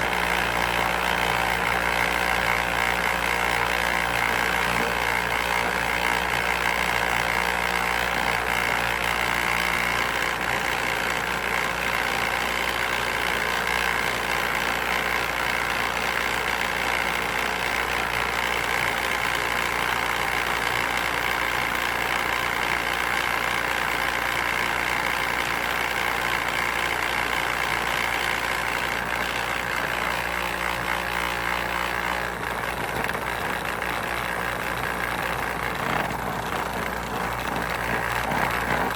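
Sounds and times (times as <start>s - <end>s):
motor humming steadily: 0.0s - 38.9s.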